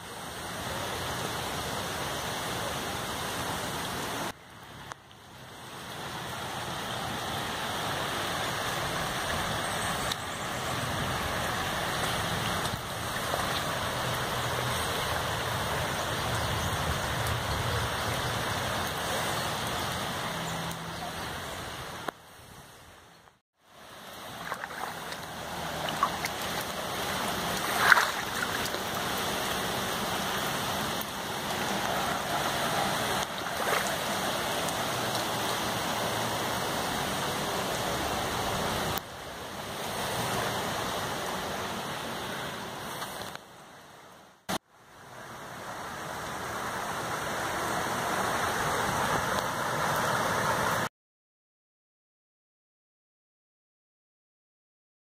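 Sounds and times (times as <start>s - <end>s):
rushing floodwater: 0.0s - 23.0s, 23.6s - 50.9s.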